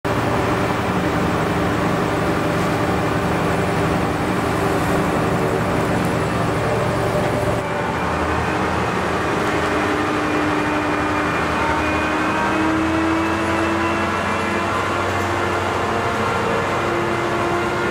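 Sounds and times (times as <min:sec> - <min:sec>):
combine harvester running: 0:00.0 - 0:17.9.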